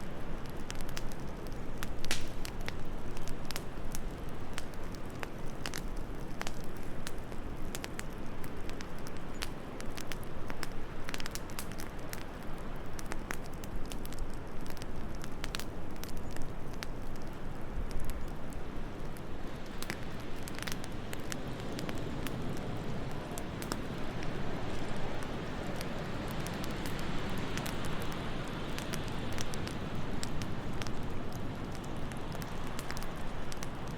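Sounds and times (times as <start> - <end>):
fire pops: 0.0 - 33.9
wind: 0.0 - 33.9
wood fire crackling: 0.0 - 33.9.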